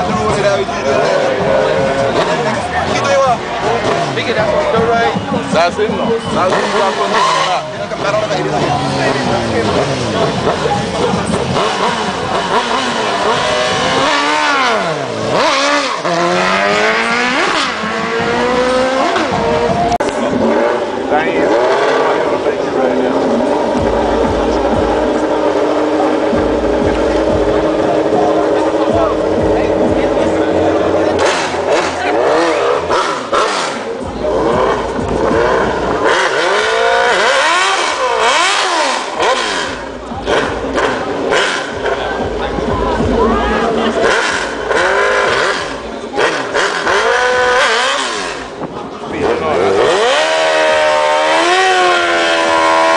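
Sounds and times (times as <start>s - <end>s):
vehicle engine revving hard: 0.0s - 52.9s.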